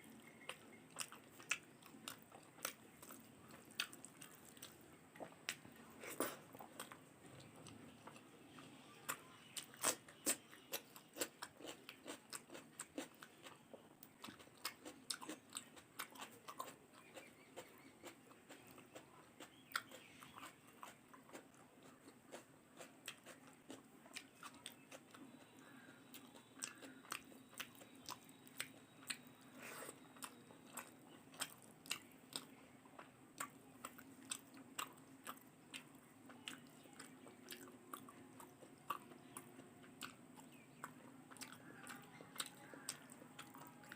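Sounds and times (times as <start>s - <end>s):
person chewing food: 0.0s - 43.9s.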